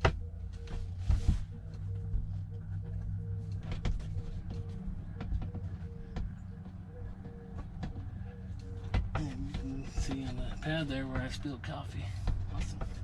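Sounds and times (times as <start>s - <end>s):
faint pulsing tone: 0.0s - 11.0s
steady low hum: 0.0s - 13.0s.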